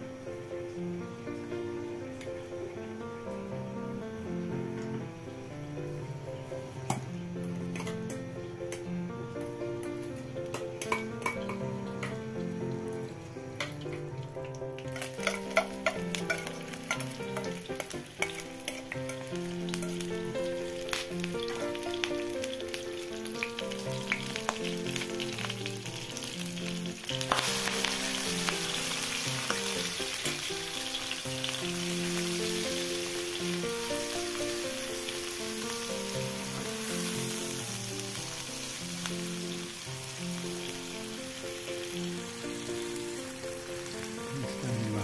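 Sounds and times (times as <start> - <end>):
food sizzling in hot oil: 8.8 - 45.0.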